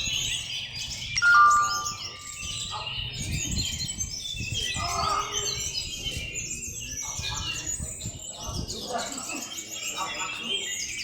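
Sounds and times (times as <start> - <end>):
many songbirds chirping and trilling: 0.0 - 11.0.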